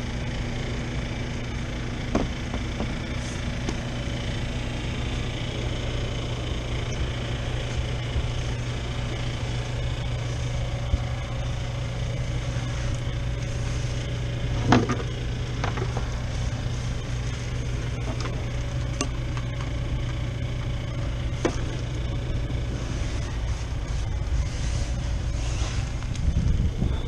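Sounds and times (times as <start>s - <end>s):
freezer humming: 0.0s - 27.0s.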